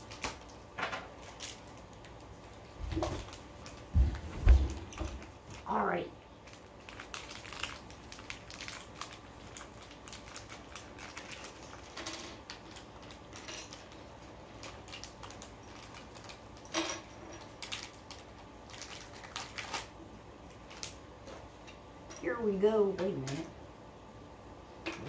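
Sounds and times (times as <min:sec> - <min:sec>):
plastic packet crinkling: 0:00.0 - 0:21.4.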